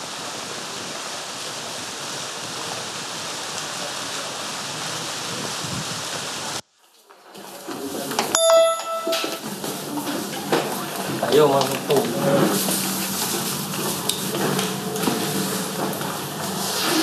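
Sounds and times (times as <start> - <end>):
fountain water splashing: 0.0 - 8.2, 9.4 - 17.0.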